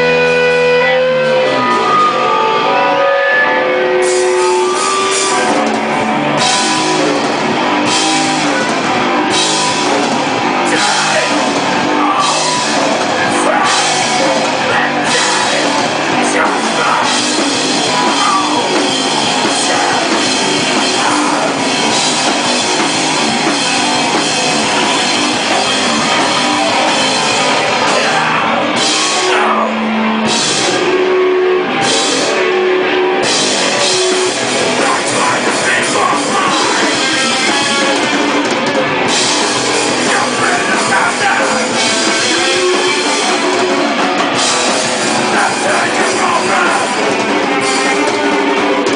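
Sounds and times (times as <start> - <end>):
hardcore rock band playing live: 0.0 - 48.9.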